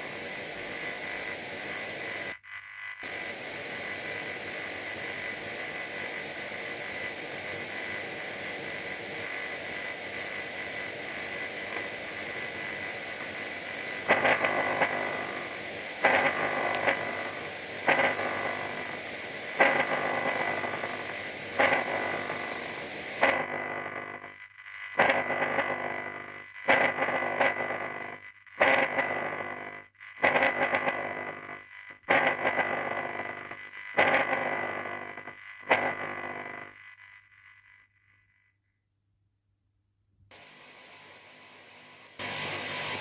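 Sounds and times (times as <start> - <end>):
high whine: 0.0 - 37.8, 40.3 - 43.0
static hiss: 0.0 - 37.9, 40.3 - 43.0.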